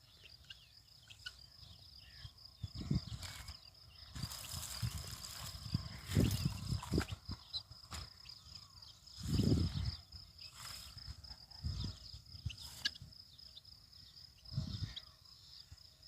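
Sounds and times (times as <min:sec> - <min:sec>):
high-pitched insect drone: 0:00.4 - 0:16.0.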